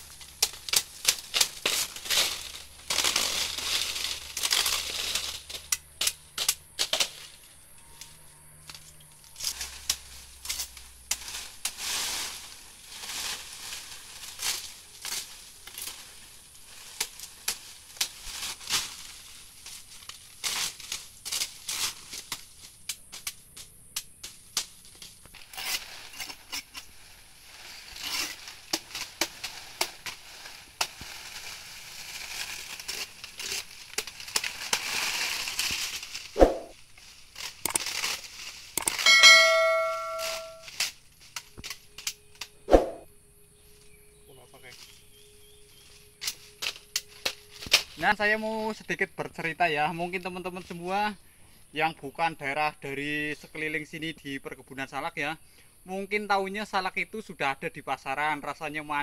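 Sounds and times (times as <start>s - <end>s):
palm fronds cracking and crunching: 0.0s - 42.7s, 43.6s - 51.2s
dry spiny leaves rustling: 0.0s - 51.8s.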